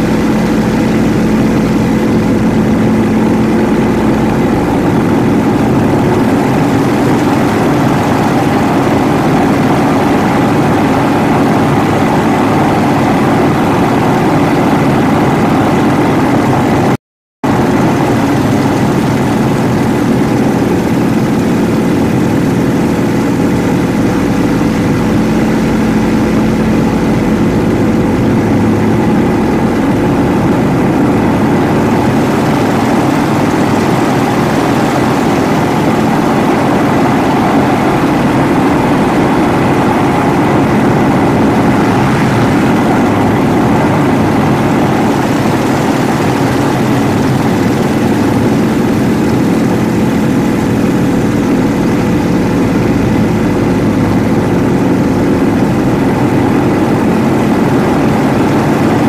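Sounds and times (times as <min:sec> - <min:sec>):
radial aircraft engine drone: 0:00.0 - 0:59.0.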